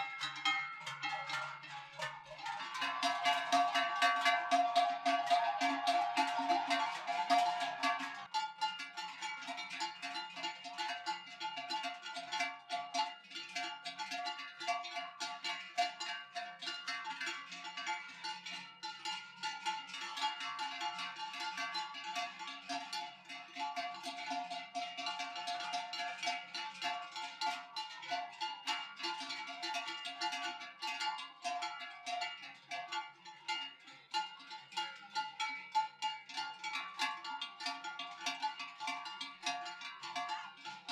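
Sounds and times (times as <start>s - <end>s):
cowbells clanging: 0.0s - 40.9s.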